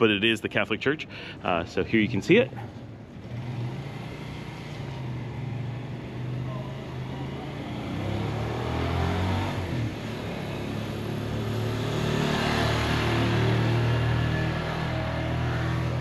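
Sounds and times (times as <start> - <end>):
motorcycle engine approaching: 2.5 - 16.0.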